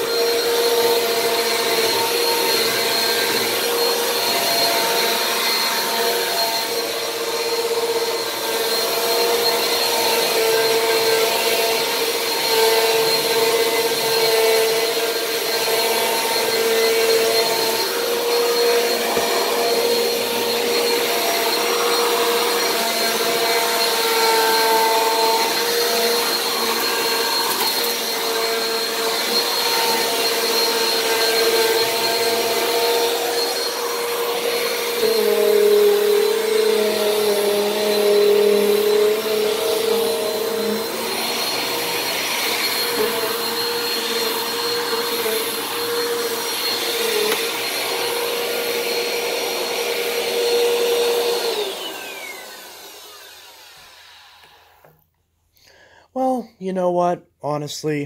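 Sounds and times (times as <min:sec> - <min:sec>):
upright vacuum cleaner running: 0:00.0 - 0:55.0.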